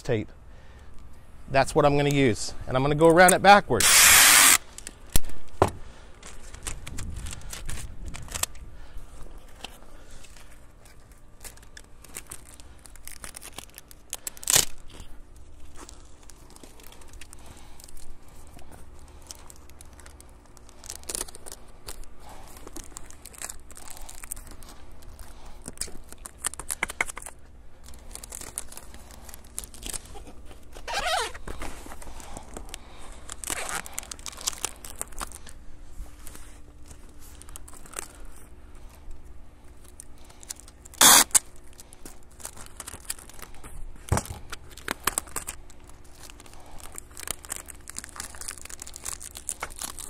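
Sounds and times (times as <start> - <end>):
packing tape ripping: 3.2 - 5.3, 6.2 - 8.6, 9.6 - 35.6, 36.2 - 38.3, 39.8 - 50.0
plastic cover crinkling: 6.1 - 8.6, 9.3 - 50.0.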